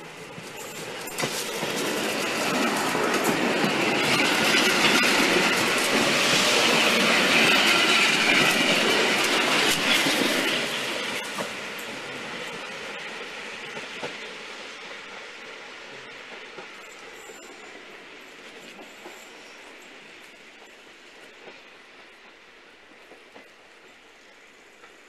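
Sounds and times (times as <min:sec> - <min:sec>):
train wheels clicking over rail joints: 0:00.0 - 0:25.0.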